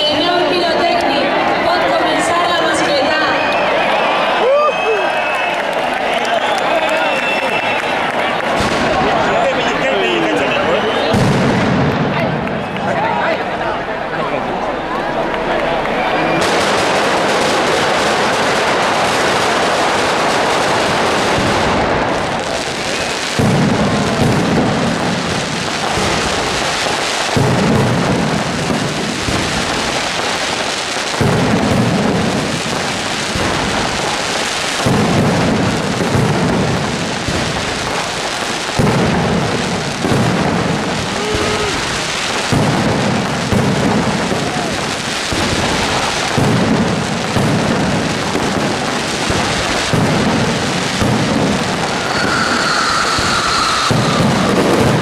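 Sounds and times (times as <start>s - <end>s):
firecracker barrage: 0.0s - 55.0s.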